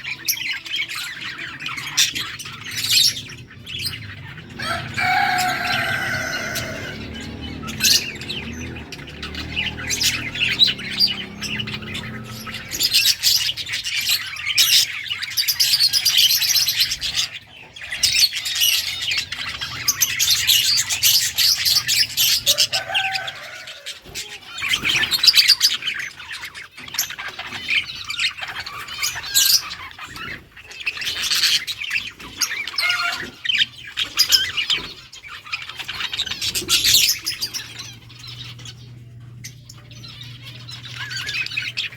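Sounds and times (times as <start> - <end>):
budgerigars chirping and chattering: 0.0 - 41.9.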